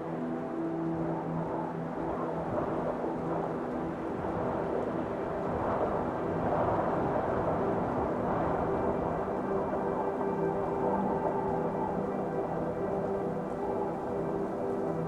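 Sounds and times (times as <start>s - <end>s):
ambient music tones: 0.0s - 15.0s.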